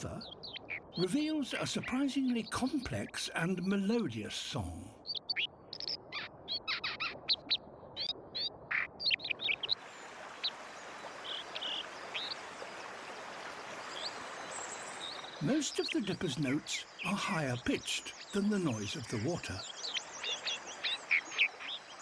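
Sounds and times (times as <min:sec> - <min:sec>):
rushing stream: 0:00.0 - 0:22.0.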